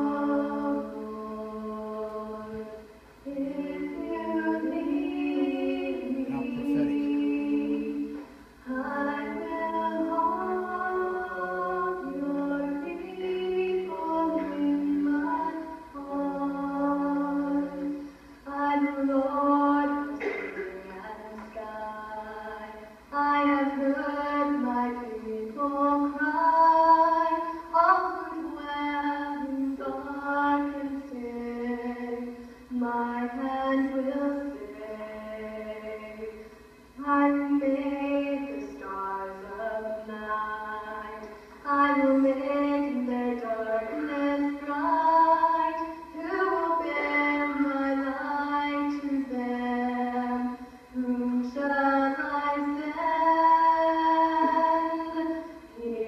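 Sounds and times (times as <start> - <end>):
girl singing through tv speaker: 0.0 - 56.0.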